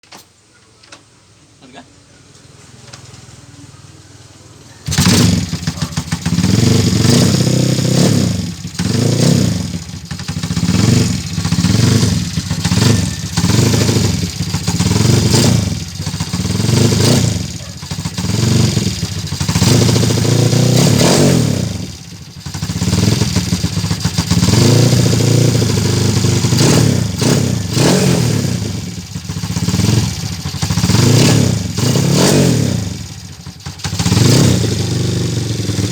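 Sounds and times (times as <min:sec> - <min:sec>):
motorcycle engine revving: 0:02.7 - 0:35.9.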